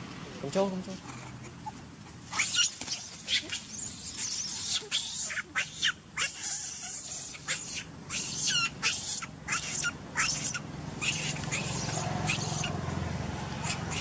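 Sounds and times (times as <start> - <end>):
baby monkey squealing: 1.0 - 12.8, 13.6 - 14.0.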